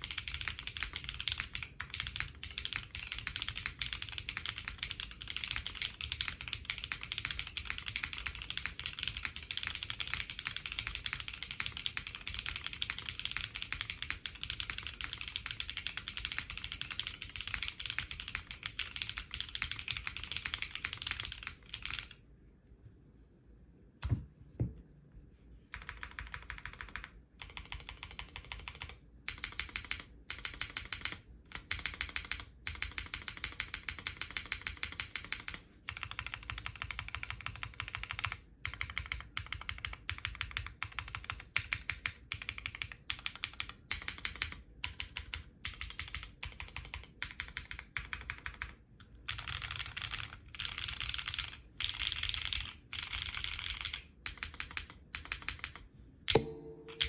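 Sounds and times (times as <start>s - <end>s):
mechanical keyboard typing: 0.0s - 22.2s, 25.7s - 57.0s.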